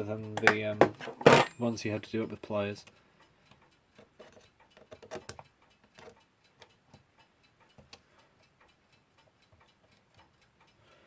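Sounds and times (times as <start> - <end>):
small metallic clock clicks: 0.0 - 11.0.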